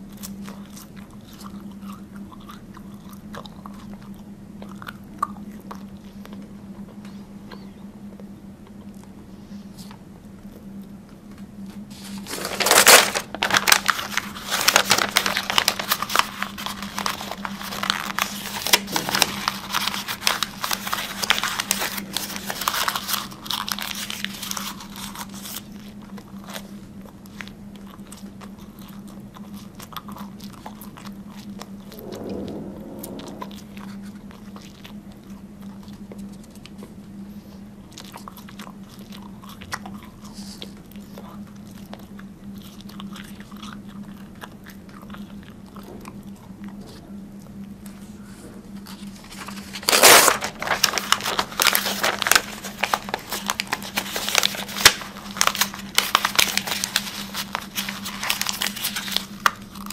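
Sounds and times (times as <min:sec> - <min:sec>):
chewing and crunching: 0:00.0 - 0:07.1, 0:09.9 - 0:31.8, 0:34.5 - 0:49.7, 0:50.9 - 0:59.9
steady low hum: 0:00.0 - 0:24.2, 0:26.0 - 0:59.9.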